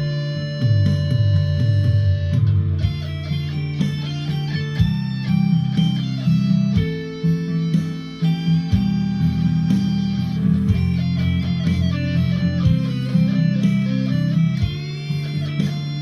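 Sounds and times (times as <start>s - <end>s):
electric guitar single notes: 0.0s - 16.0s
low ringing guitar notes: 0.0s - 16.0s.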